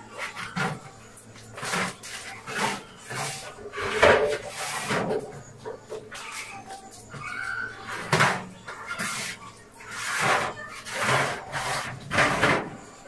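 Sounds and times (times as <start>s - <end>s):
kitchen items rustling and scraping: 0.0s - 13.0s.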